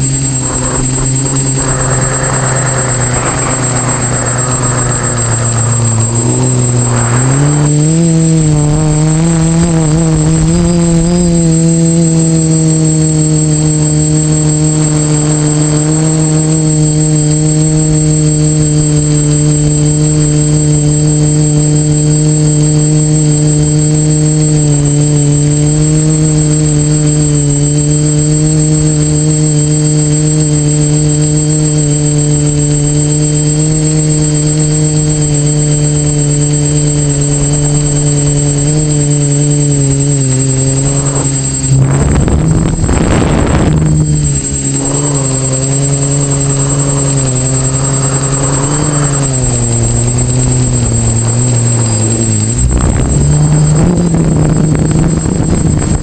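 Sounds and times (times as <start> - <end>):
drone motors droning: 0.0 - 56.0
high whine: 0.0 - 56.0.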